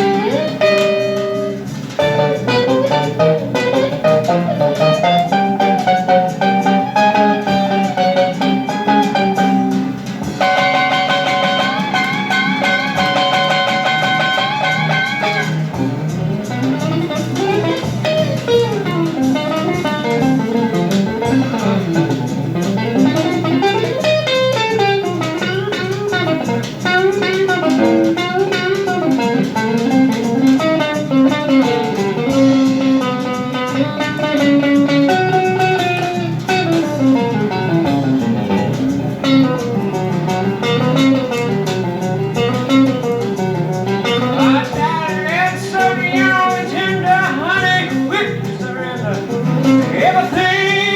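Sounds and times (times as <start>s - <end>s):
blues rock band music: 0.0s - 50.9s
electric guitar lead: 0.0s - 50.9s.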